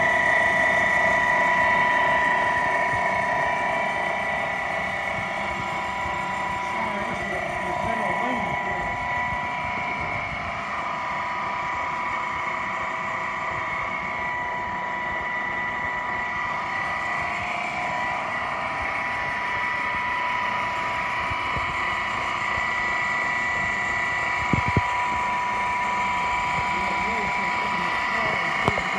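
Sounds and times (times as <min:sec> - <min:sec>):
machinery motor hum and whine: 0:00.0 - 0:28.9.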